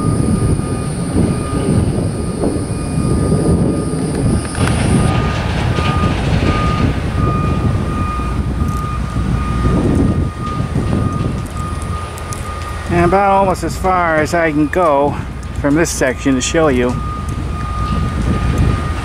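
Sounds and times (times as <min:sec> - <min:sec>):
faint beeping: 0:00.0 - 0:19.0
wind buffeting microphone: 0:00.0 - 0:19.0.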